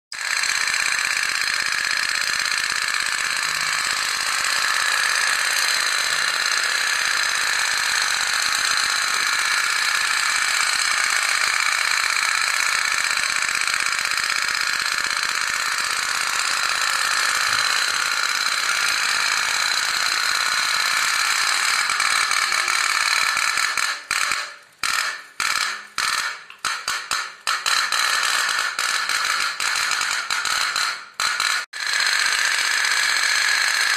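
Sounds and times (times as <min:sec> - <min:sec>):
steam boat toy clicking: 0:00.1 - 0:33.9.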